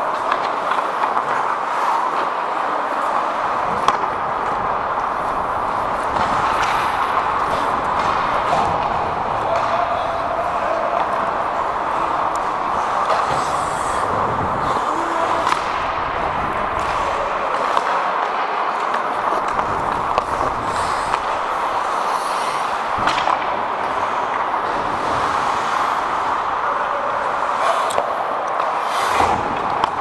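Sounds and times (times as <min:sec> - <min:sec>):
hockey sticks and puck clacking: 0:00.0 - 0:30.0
skate blades scraping ice: 0:00.1 - 0:30.0.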